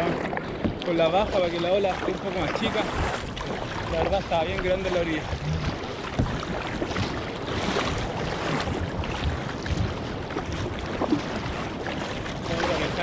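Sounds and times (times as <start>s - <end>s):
paddle strokes splashing: 0.0s - 13.0s
water washing along hull: 0.0s - 13.0s
wind on microphone: 0.0s - 13.0s.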